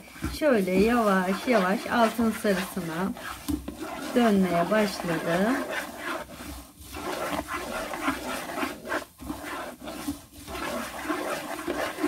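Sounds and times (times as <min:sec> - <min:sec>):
wooden spoon scraping a pan: 0:00.0 - 0:12.0.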